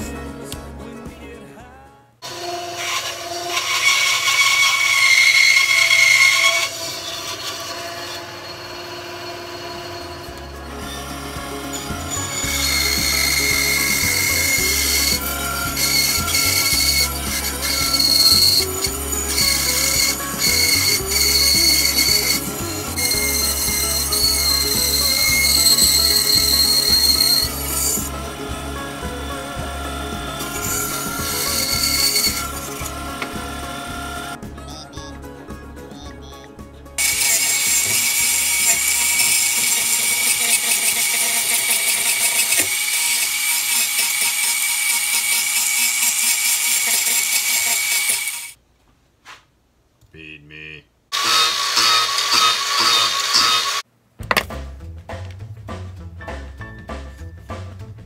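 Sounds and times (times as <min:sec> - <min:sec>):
band saw blade cutting wood: 0:02.2 - 0:34.4, 0:37.0 - 0:48.6, 0:51.1 - 0:54.4
band saw motor hum: 0:02.2 - 0:34.4, 0:37.0 - 0:48.6, 0:51.1 - 0:53.8.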